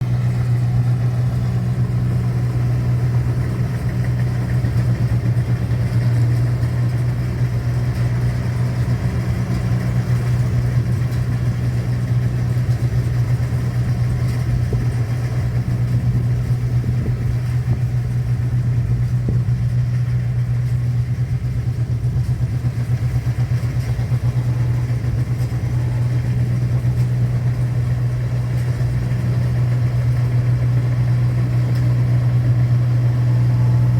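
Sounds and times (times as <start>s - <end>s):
machine engine humming: 0.0s - 33.9s.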